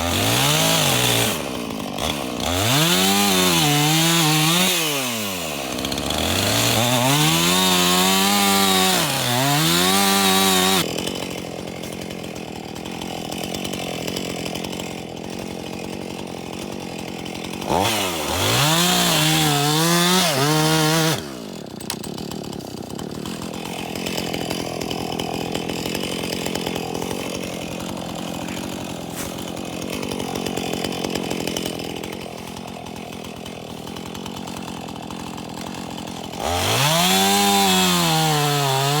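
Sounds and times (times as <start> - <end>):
chainsaw revving and idling: 0.0 - 39.0.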